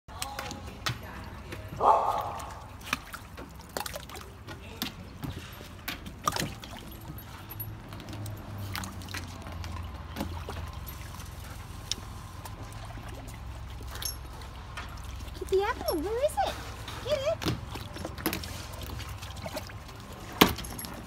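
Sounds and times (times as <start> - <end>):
water sloshing and splashing: 0.1 - 21.0.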